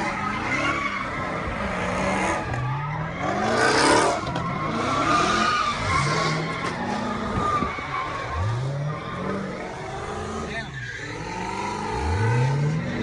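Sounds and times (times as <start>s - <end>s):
car engines revving: 0.0s - 13.0s
tyres squealing on pavement: 0.0s - 13.0s.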